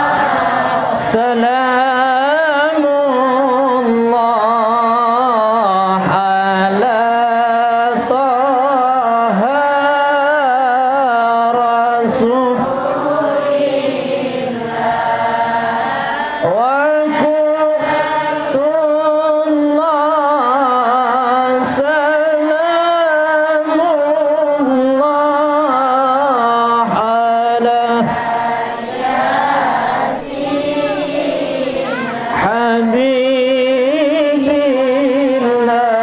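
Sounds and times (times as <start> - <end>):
man singing devotional song: 0.0 - 13.6, 14.5 - 31.2, 31.9 - 36.0.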